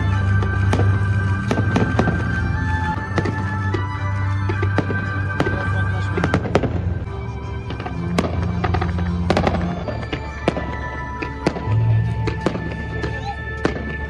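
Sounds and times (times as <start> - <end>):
fireworks bangs and crackles: 0.0 - 14.0
music with long held notes: 0.0 - 14.0.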